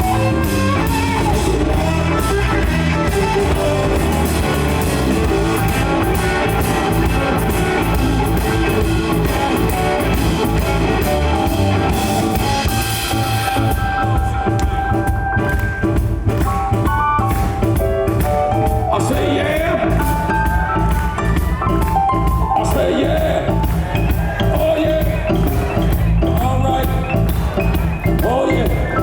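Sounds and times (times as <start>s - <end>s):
drum kit: 0.0s - 29.0s
electric guitar lead: 0.0s - 29.0s.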